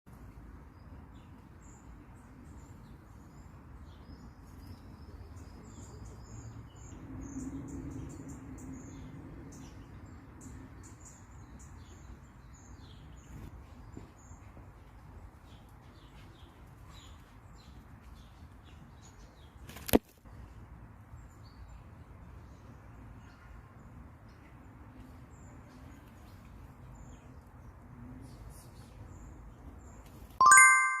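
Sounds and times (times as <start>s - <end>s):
small birds chirping: 0.1s - 30.4s
low outdoor background: 0.1s - 31.0s.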